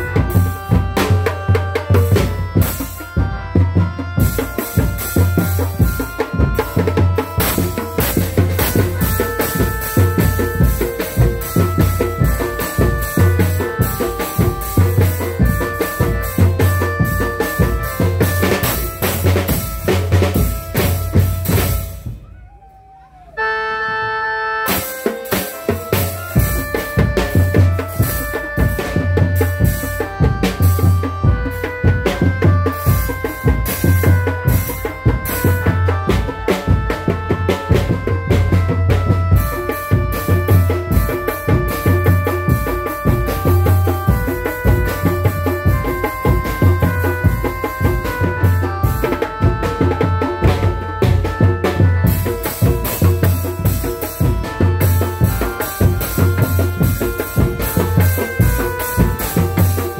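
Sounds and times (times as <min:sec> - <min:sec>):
deep drum beats: 0:00.0 - 0:22.6, 0:24.7 - 0:59.9
folk melody of held notes: 0:00.0 - 0:59.9.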